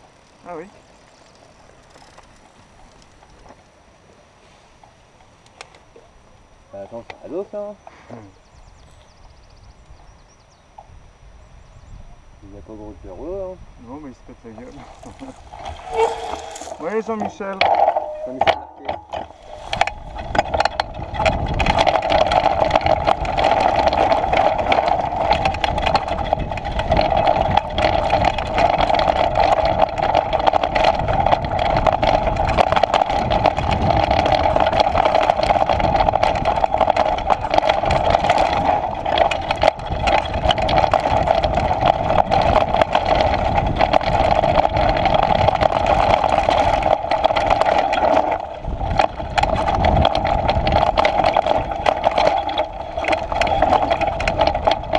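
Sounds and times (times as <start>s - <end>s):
bike rattling over rough ground: 0.0s - 7.8s, 12.4s - 54.9s
mountain bike rolling drone: 0.0s - 54.9s.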